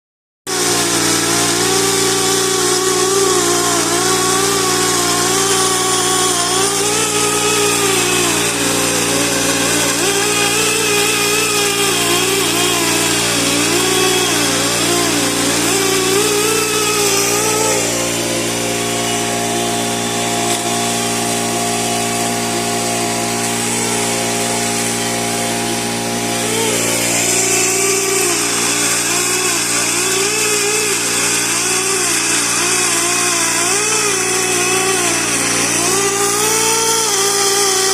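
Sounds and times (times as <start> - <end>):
die grinder grinding metal: 0.5 - 37.9.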